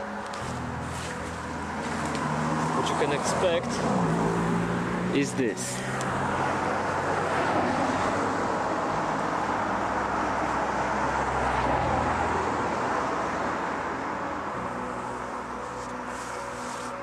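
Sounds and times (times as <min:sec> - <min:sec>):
car driving past: 0:00.7 - 0:16.1.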